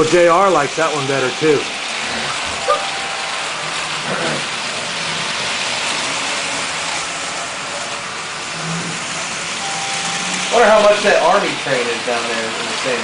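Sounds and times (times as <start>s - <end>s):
toy train motor whirring: 1.2s - 13.0s.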